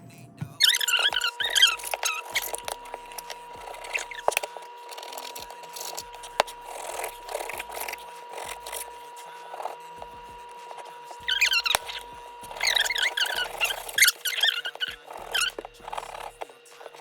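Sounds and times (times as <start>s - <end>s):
knife cutting raw meat: 0.6s - 17.0s.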